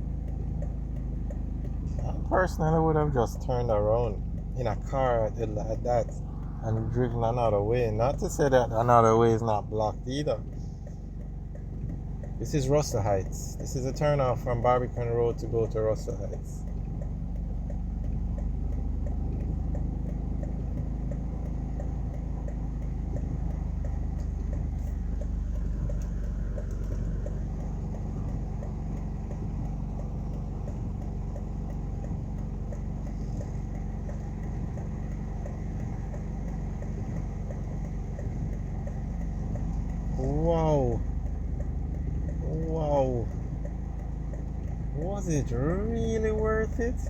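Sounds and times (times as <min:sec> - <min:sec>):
car engine idling: 0:00.0 - 0:47.0
faint even ticking: 0:00.0 - 0:47.0.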